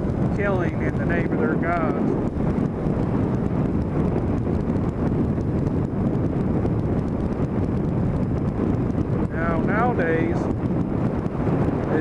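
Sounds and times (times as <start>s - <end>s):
low rumble of vehicle travel: 0.0s - 12.0s
wind buffeting microphone: 0.0s - 12.0s.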